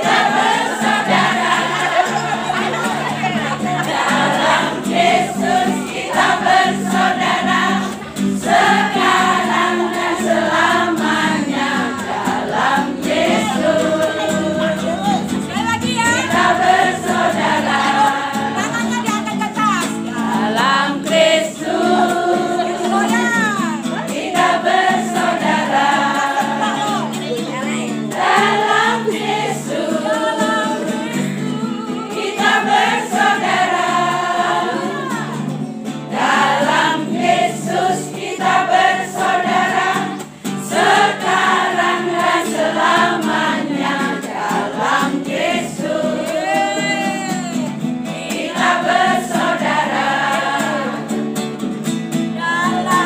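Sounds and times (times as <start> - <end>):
women singing together: 0.0 - 51.4, 52.3 - 53.0
strummed acoustic guitar: 0.0 - 53.0.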